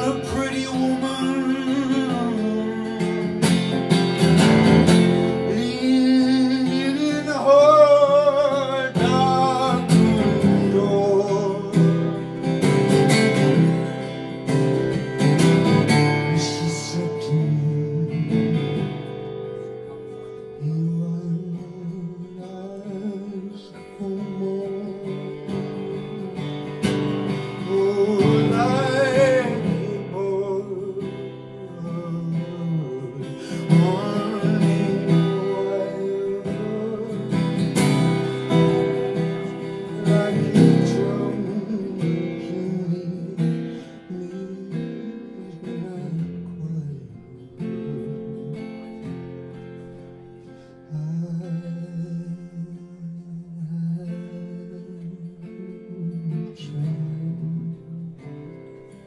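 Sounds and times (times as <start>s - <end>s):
man singing: 0.0s - 50.0s, 50.8s - 59.0s
acoustic guitar: 0.0s - 59.0s.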